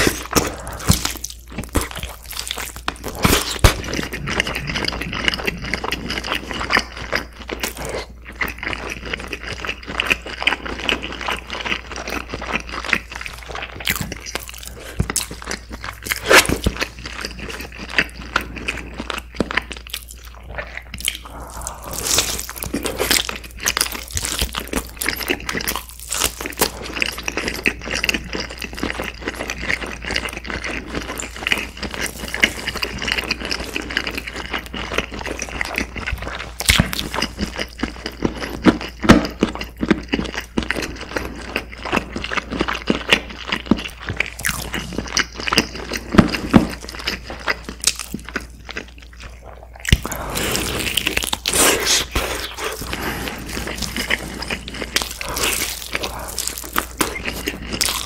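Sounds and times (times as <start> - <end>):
close-miked chewing: 0.0 - 58.0.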